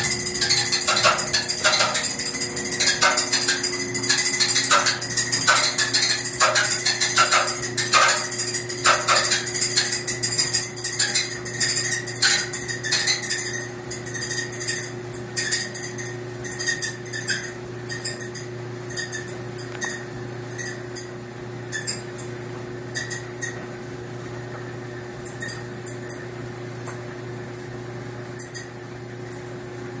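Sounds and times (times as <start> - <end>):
clothes dryer humming: 0.0 - 30.0.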